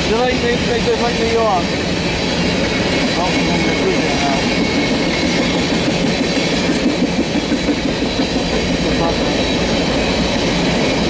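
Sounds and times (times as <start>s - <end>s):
freight train rumbling past: 0.0s - 11.0s
steel wheels clattering on rails: 0.0s - 11.0s.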